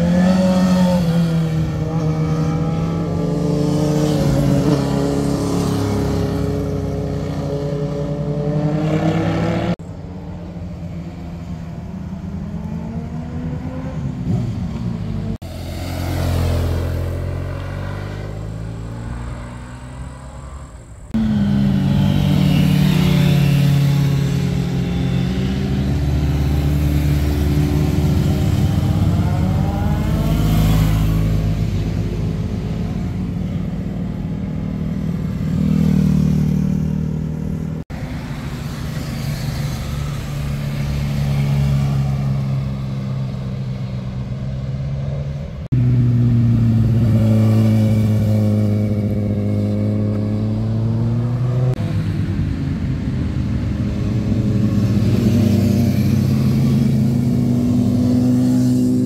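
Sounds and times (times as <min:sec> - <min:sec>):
motorcycle engines slowing and accelerating: 0:00.0 - 0:59.0.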